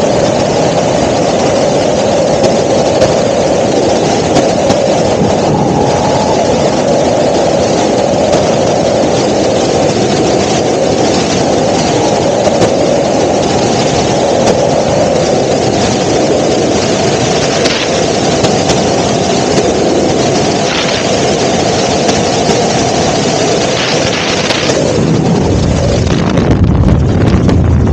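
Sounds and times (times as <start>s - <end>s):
helicopter engine and rotor: 0.0s - 27.9s.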